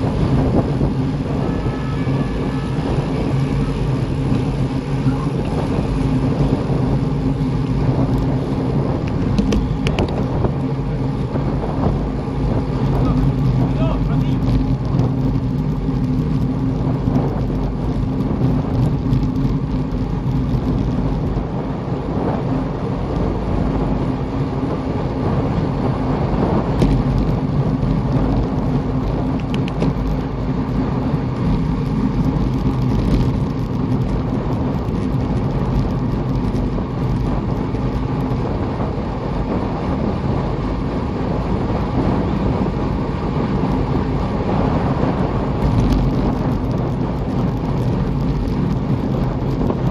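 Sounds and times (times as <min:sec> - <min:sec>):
road and wind rumble: 0:00.0 - 0:49.9
vehicle engine drone: 0:00.0 - 0:49.9.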